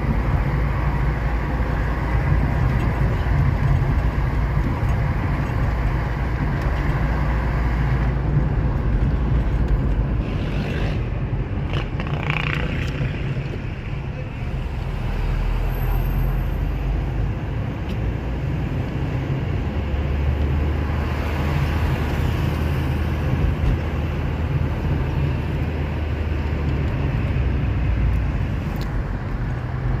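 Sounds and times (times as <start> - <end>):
car engine drone: 0.0 - 30.0
tyre and road noise: 0.0 - 30.0.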